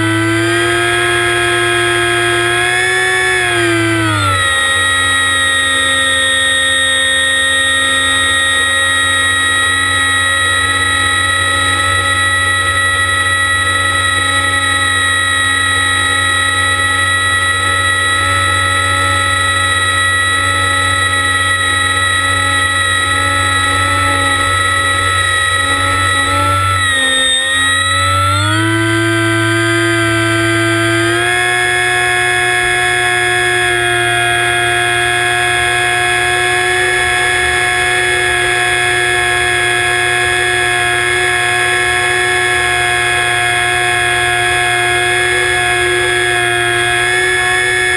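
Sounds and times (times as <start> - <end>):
electric motor and propeller whining: 0.0 - 47.9.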